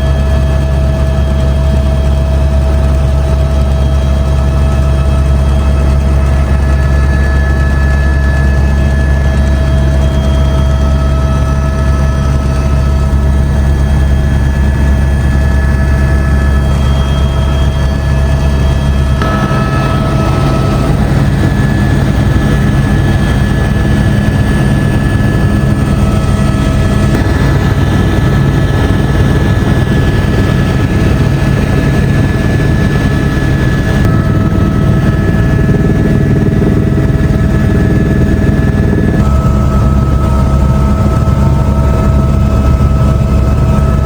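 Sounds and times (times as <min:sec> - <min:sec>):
helicopter engine and rotor drone: 0:00.0 - 0:44.0
whining tones: 0:00.0 - 0:44.0.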